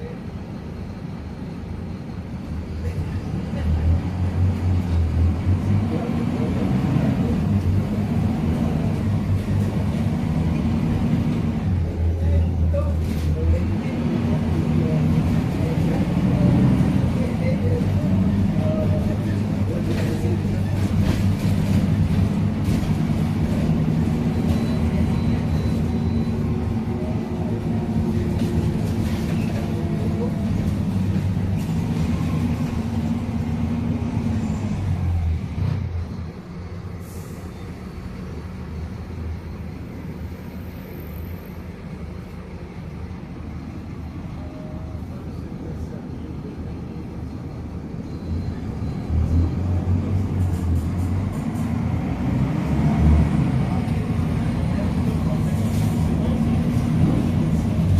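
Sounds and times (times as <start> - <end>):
bus diesel engine droning: 0.0 - 57.9.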